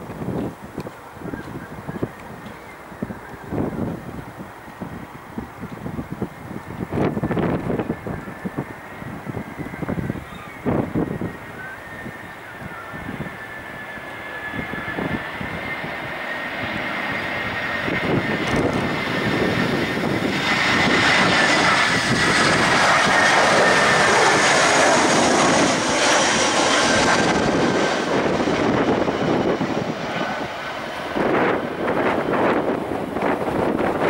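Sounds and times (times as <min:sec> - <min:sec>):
jet airliner passing: 0:00.0 - 0:34.0.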